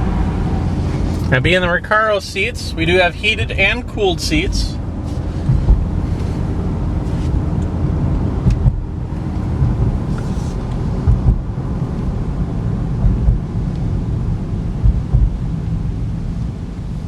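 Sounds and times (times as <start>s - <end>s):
short low thumps: 0.0s - 1.8s, 2.8s - 16.8s
engine and road noise rumble: 0.0s - 17.0s.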